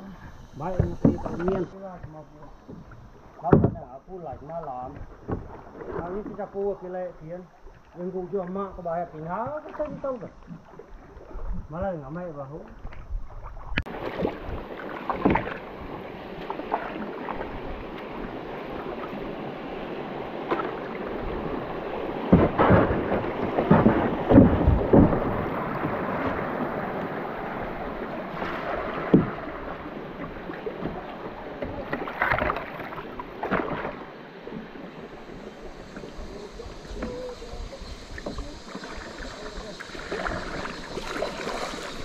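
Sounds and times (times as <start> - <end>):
rushing water: 0.0 - 42.0
paddle splashes and knocks: 0.6 - 7.0, 7.6 - 42.0.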